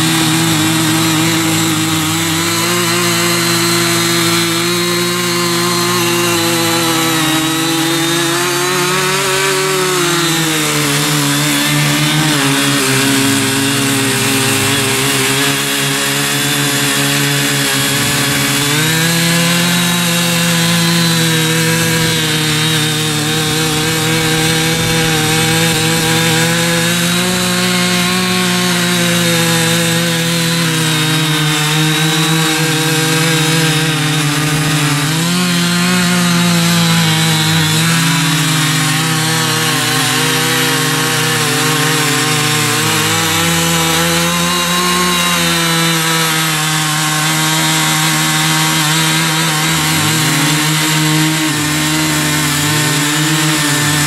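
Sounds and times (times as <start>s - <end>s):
cultivator engine running: 0.0s - 54.0s
tines churning soil: 0.0s - 54.0s.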